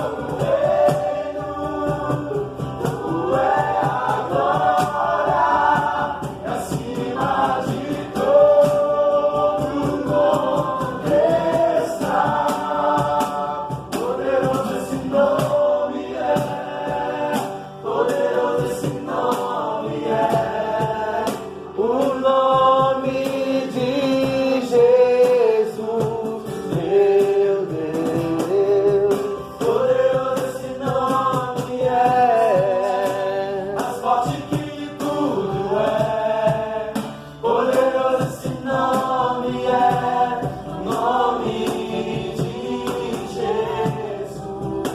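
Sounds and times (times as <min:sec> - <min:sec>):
gospel singing: 0:00.0 - 0:44.9.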